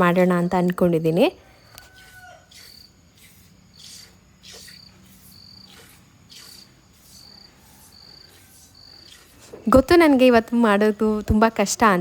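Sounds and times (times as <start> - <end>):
cricket chirping: 0.0 - 11.9.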